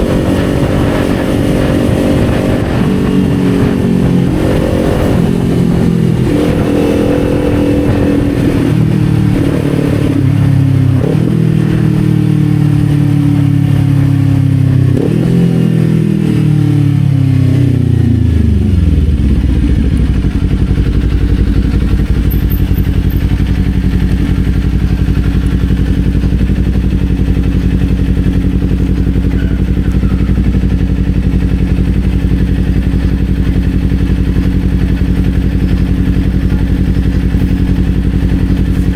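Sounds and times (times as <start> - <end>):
motorcycle engine downshifting: 0.0 - 38.9.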